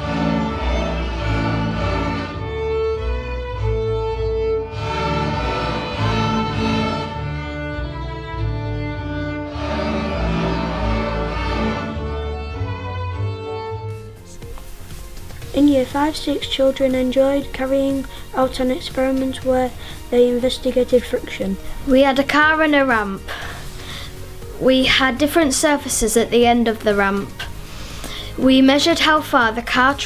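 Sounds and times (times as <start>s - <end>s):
string ensemble playing: 0.0s - 30.0s.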